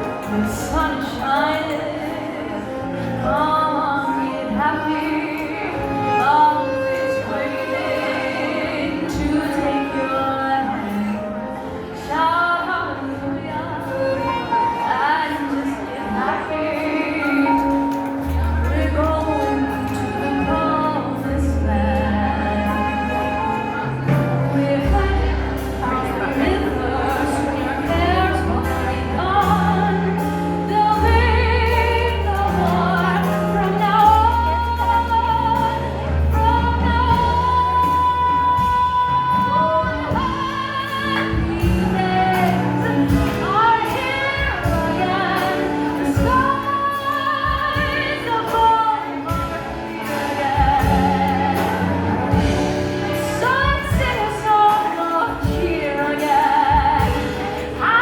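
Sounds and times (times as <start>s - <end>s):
instrumental accompaniment: 0.0s - 58.0s
vocal duet singing: 0.0s - 58.0s.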